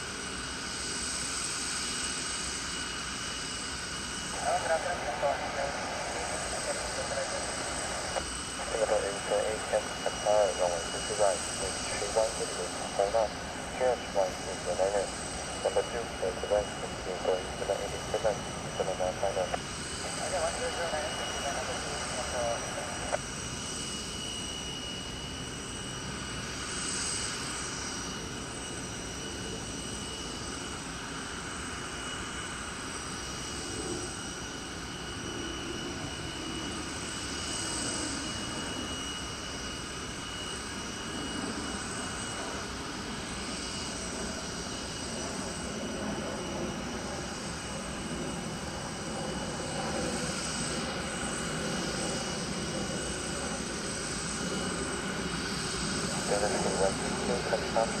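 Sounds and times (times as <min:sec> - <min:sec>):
high-pitched engine whine: 0:00.0 - 0:58.0
jet engines rumbling: 0:00.0 - 0:58.0.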